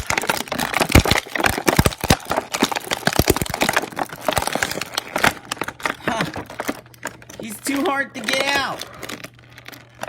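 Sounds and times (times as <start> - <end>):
plastic packaging crackling: 0.0 - 10.0.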